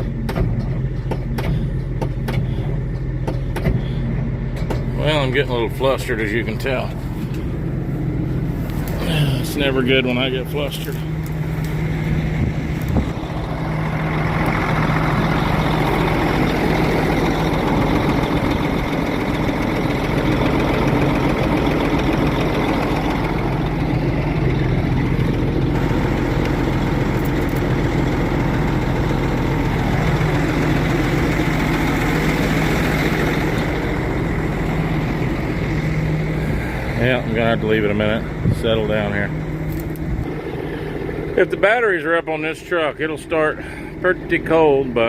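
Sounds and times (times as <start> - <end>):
truck engine idling: 0.0 - 45.0.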